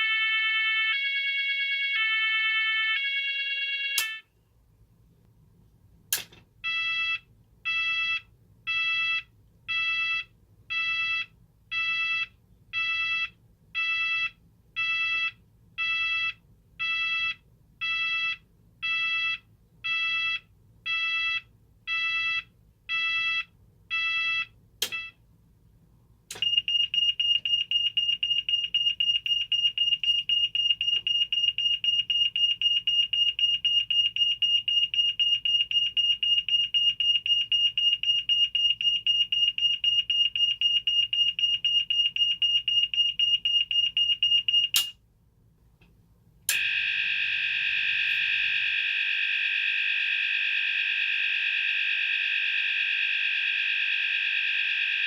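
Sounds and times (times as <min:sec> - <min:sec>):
fire alarm sounder tones: 0:00.0 - 0:04.3, 0:06.6 - 0:25.2, 0:26.3 - 0:44.9, 0:46.5 - 0:55.0.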